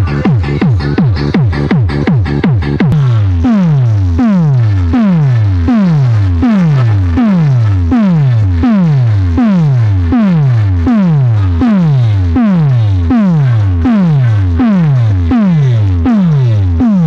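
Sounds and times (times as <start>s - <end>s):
deep bass tone dropping in pitch: 0.0s - 17.0s
synthesizer sounds: 0.0s - 17.0s.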